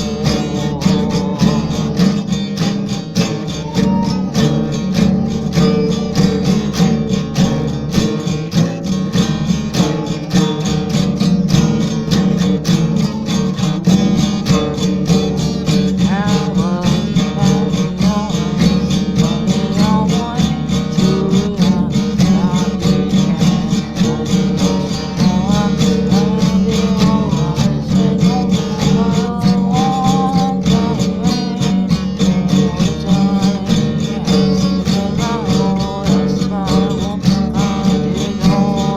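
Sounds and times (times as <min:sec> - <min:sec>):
strummed acoustic guitar: 0:00.0 - 0:38.9.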